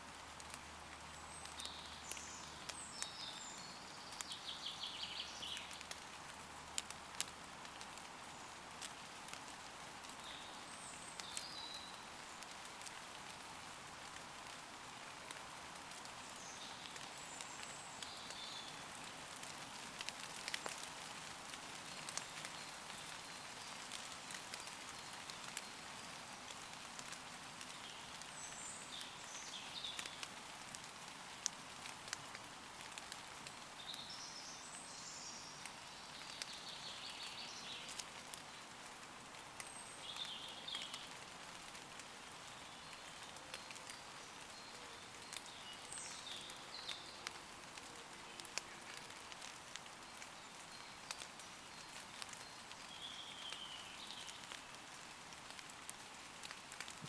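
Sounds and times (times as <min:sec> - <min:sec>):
light rain on leaves: 0:00.0 - 0:57.0.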